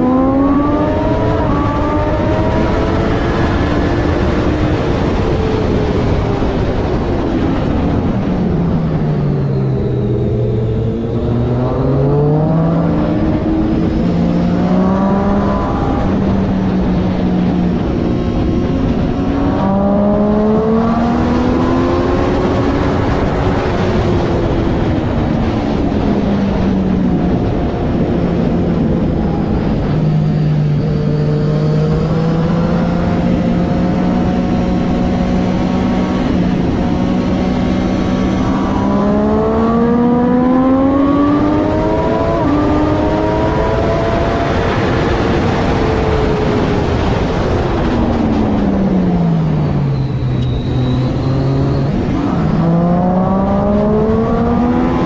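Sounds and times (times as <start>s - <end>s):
constant rushing noise: 0.0s - 55.0s
motorcycle engine revving: 0.0s - 55.0s.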